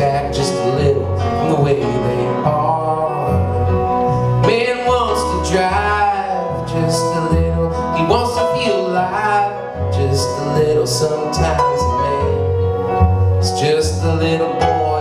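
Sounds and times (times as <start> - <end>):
country band playing: 0.0 - 15.0
man singing: 0.0 - 15.0.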